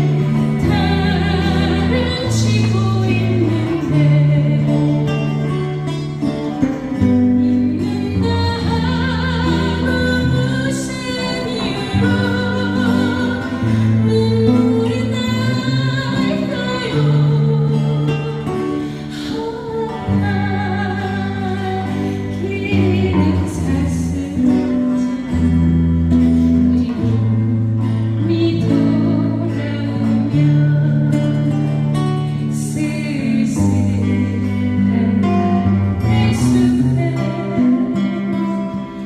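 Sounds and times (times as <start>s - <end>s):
guitar: 0.0s - 39.0s
person singing: 0.0s - 39.0s.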